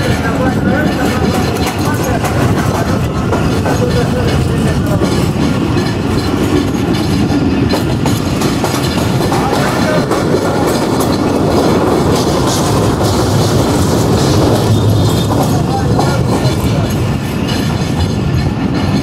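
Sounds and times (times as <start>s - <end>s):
train running gear rumble: 0.0s - 19.0s
wheels clacking over rail joints: 0.0s - 19.0s.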